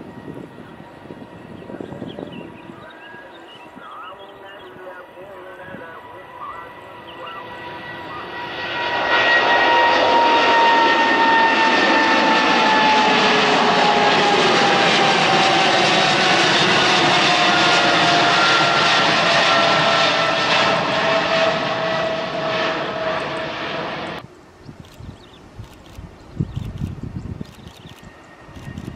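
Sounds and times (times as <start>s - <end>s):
jet airliner engine roar: 0.0s - 28.9s.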